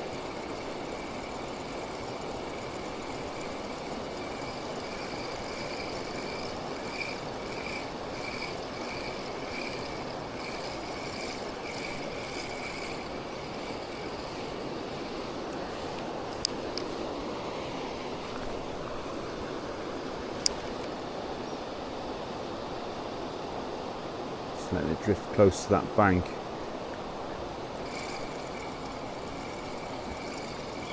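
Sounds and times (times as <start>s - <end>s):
faint high-pitched pulsing whine: 0.0s - 30.9s.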